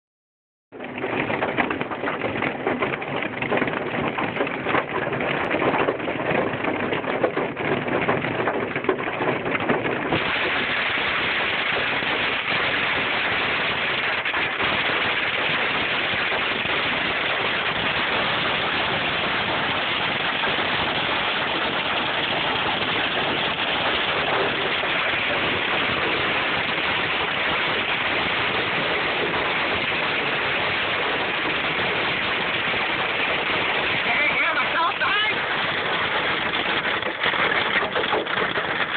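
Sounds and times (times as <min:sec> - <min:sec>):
hail clattering on car roof: 0:00.7 - 0:38.9.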